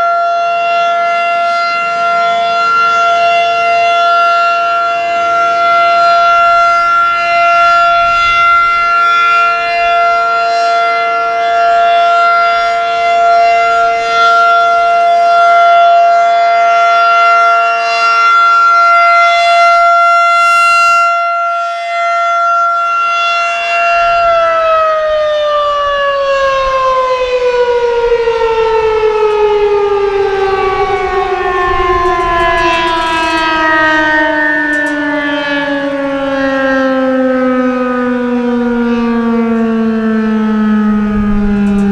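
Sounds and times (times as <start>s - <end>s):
warning siren winding down: 0.0s - 41.9s.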